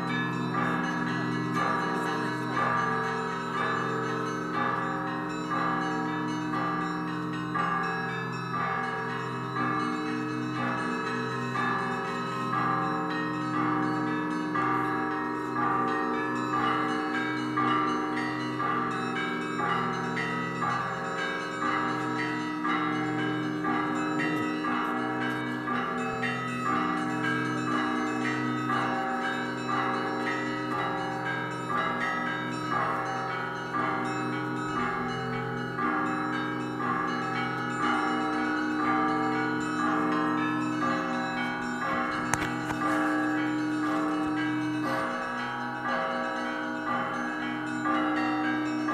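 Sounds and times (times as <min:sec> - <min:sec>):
deep bells ringing: 0:00.0 - 0:48.9.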